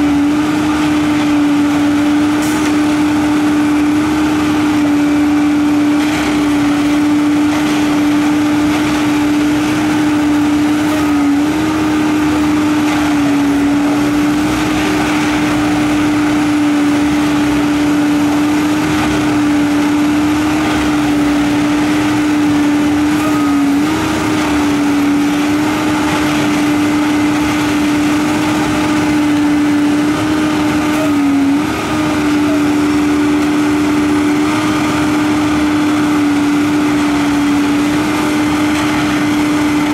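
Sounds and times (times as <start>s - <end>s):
diesel engine and hydraulics droning: 0.0s - 39.9s.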